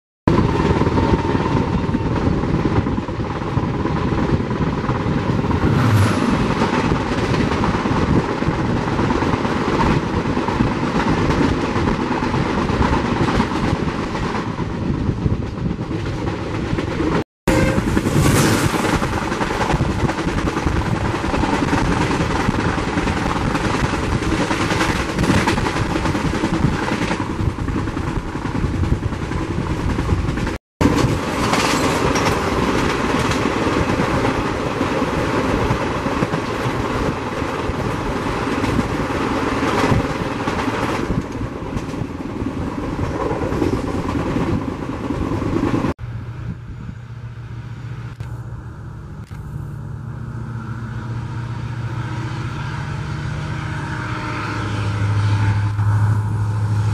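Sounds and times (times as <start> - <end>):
train coaches rushing past: 0.4 - 46.5.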